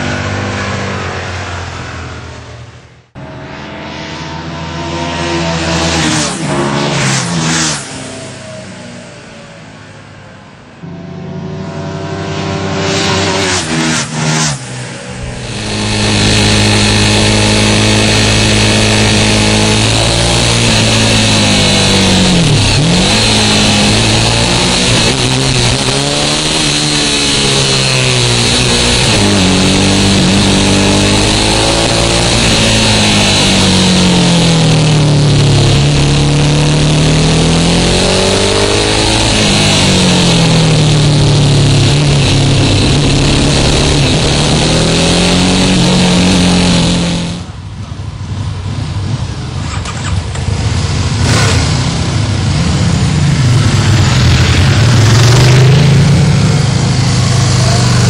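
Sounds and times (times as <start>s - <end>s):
motorcycle engine revving: 0.0s - 9.8s, 10.7s - 58.0s.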